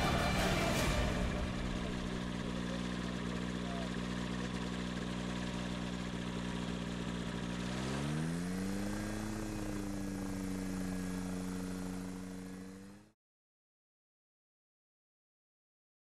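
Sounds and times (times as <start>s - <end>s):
light aircraft engine and propeller: 0.0s - 13.2s.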